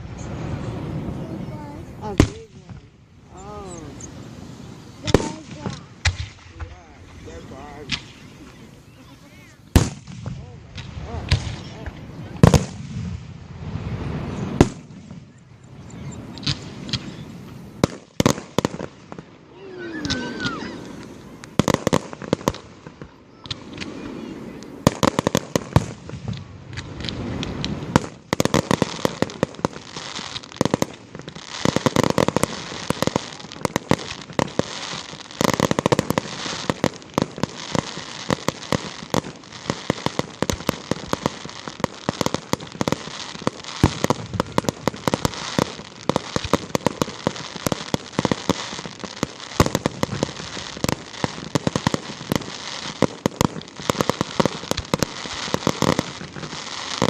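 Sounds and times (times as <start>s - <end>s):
fireworks bursts: 0.0s - 57.0s
fireworks pops and crackles: 0.0s - 57.0s.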